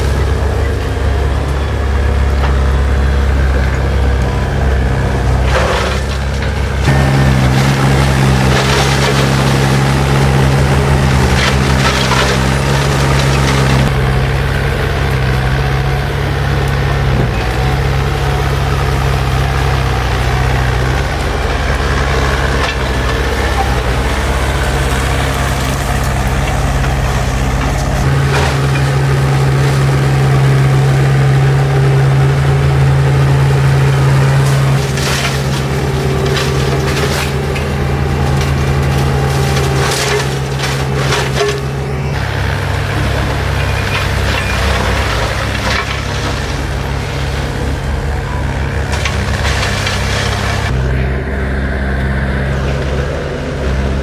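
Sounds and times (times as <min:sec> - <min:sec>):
diesel engine running under load: 0:00.0 - 0:54.0
wood and brush crackling: 0:00.0 - 0:54.0.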